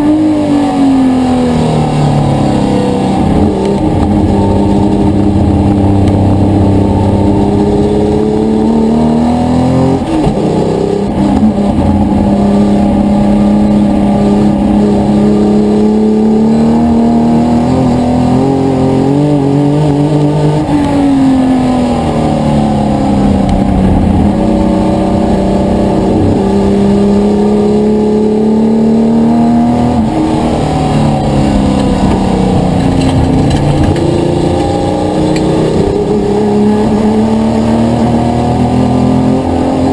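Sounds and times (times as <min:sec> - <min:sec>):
racing car engine revving: 0:00.0 - 0:39.9.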